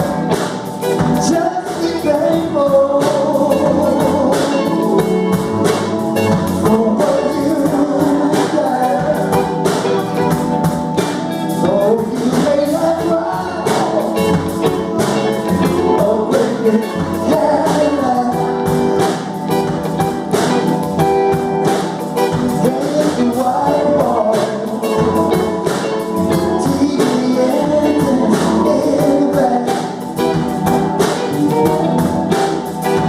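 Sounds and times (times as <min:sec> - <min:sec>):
song with singing and beat: 0:00.0 - 0:33.0.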